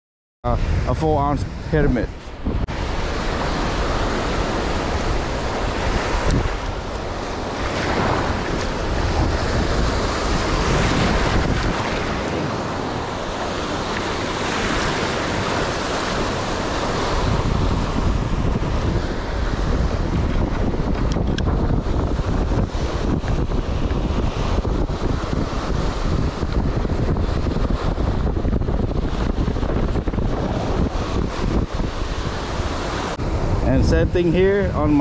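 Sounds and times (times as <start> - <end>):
surf breaking on a beach: 0.4 - 35.0
wind buffeting the microphone: 0.4 - 35.0.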